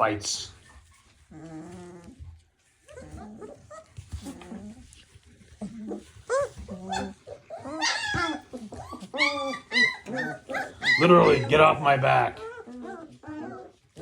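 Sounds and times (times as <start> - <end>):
puppies yipping and whining: 0.6 - 14.0.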